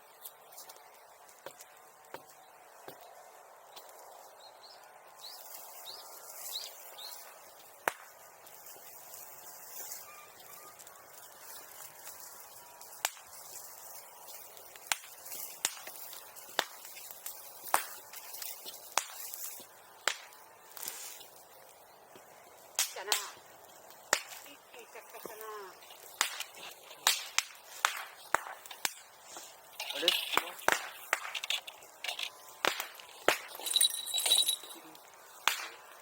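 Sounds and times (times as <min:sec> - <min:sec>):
bonfire hissing and popping: 0:00.0 - 0:36.0.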